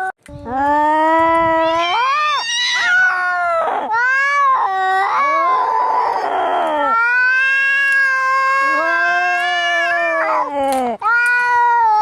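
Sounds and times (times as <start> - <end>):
cats yowling in a fight: 1.4 - 12.0.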